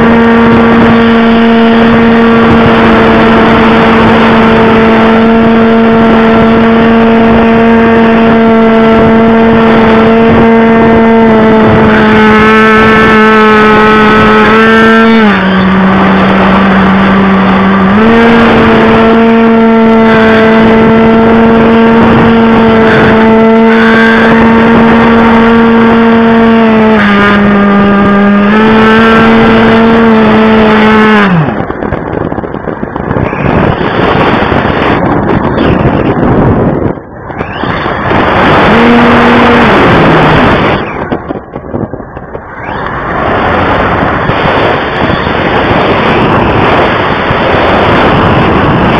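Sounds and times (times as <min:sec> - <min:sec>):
electric motor and propeller whining: 0:00.0 - 0:48.9
wind rush: 0:00.0 - 0:48.9.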